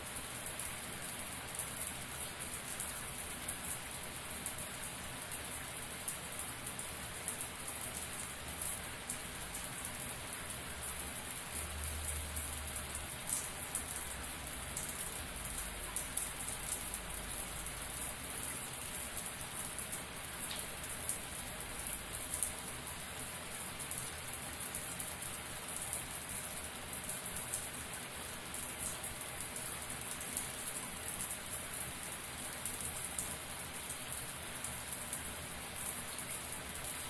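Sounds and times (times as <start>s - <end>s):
shower running: 0.0s - 37.0s.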